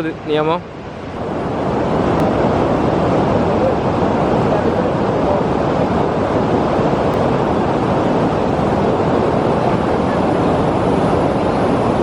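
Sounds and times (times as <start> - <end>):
waterfall rushing water: 0.0 - 12.0.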